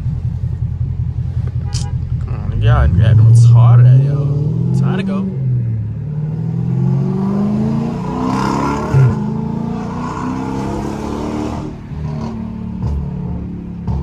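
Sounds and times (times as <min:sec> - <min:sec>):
car engine revving at full throttle: 0:00.0 - 0:14.0.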